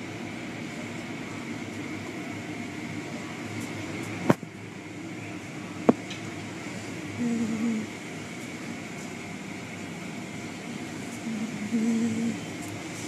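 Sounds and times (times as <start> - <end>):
car wash machinery humming: 0.0 - 13.0.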